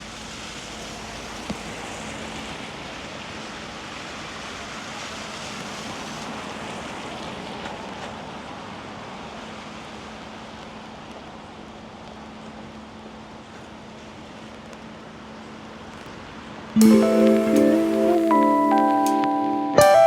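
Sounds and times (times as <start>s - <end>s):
city street ambience: 0.0s - 20.0s.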